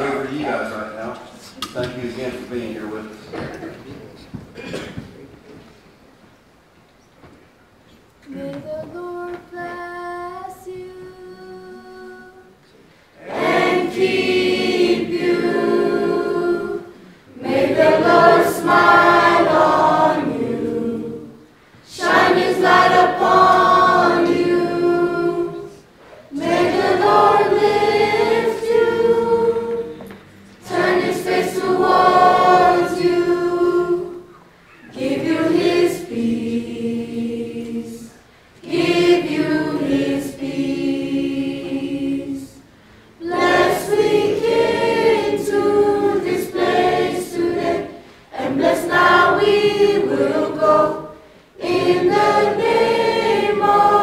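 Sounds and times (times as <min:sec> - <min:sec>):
choir singing: 0:08.2 - 0:12.6, 0:13.2 - 0:54.0.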